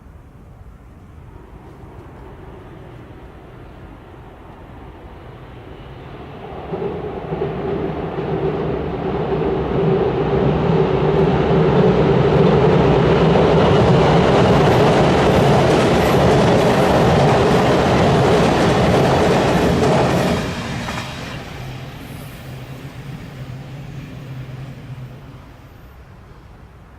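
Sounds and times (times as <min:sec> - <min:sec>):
train rumbling over bridge: 0:00.0 - 0:26.9.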